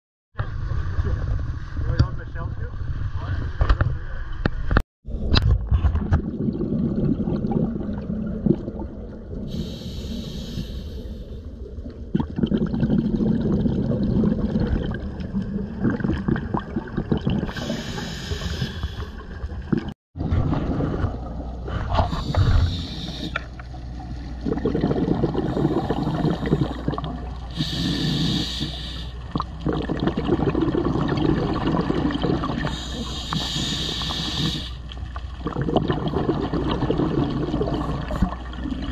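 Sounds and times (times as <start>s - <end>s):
exhaled bubbles hissing: 6.1s - 38.9s.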